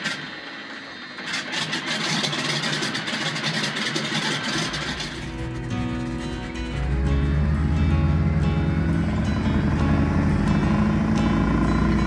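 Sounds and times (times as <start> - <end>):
plane engine and propeller: 0.0 - 12.0.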